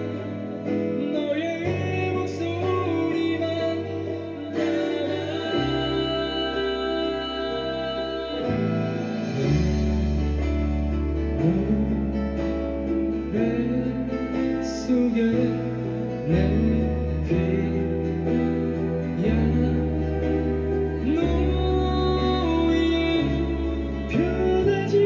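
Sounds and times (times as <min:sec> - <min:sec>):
live pop ballad with guitar: 0:00.0 - 0:25.0.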